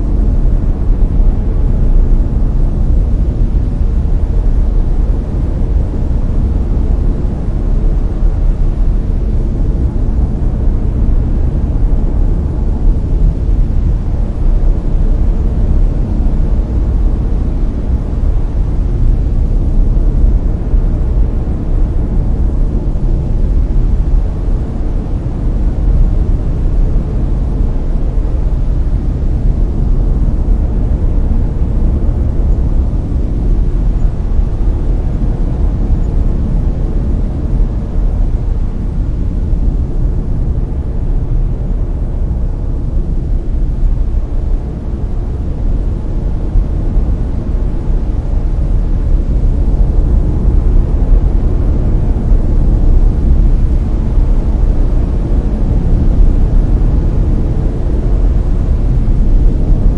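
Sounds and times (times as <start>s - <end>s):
deep brown noise: 0.0s - 59.9s.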